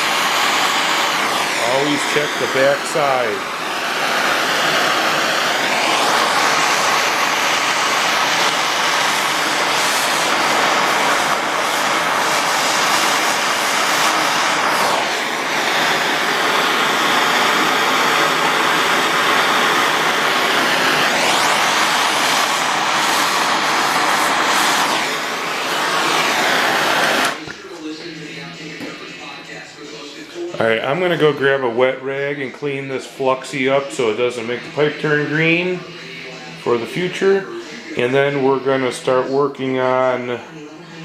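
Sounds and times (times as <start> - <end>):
torch flame hissing: 0.0 - 41.0.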